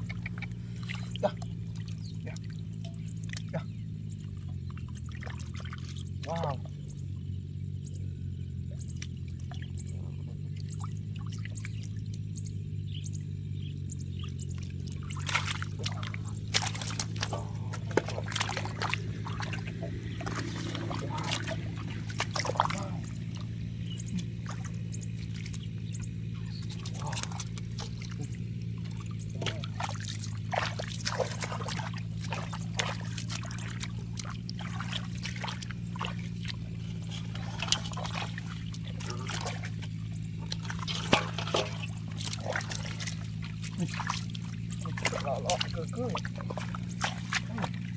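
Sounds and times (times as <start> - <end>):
muddy water splashing: 0.0 - 47.9
steady low hum: 0.0 - 47.9.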